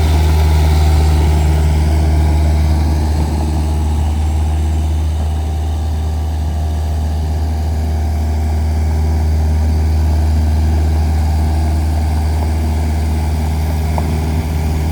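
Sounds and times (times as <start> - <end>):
lawn mower engine idling: 0.0 - 14.9.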